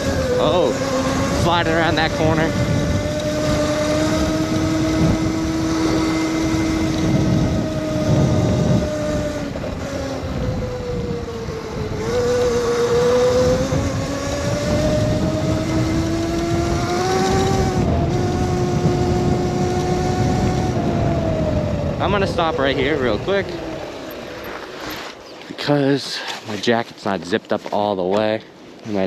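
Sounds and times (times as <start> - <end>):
electric motorbike motor whining: 0.0 - 25.5.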